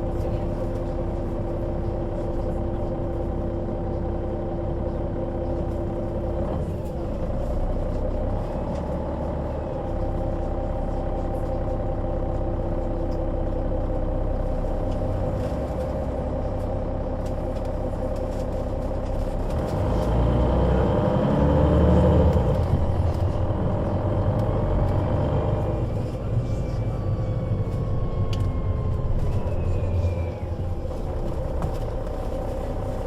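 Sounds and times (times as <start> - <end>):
bus diesel engine: 0.0 - 33.0.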